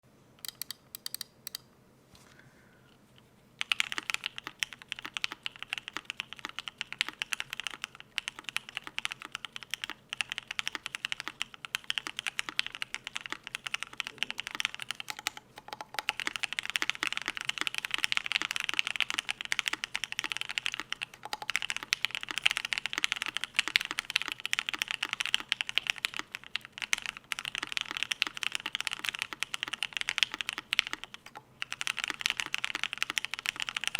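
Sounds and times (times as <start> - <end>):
clacky mechanical keyboard typing: 0.4 - 1.6, 3.6 - 33.9.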